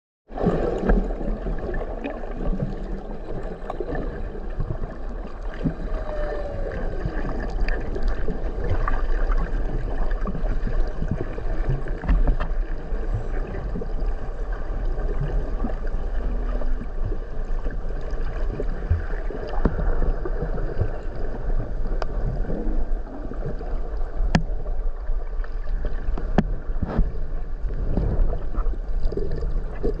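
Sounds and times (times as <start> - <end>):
water gurgling and rushing: 0.3 - 30.0.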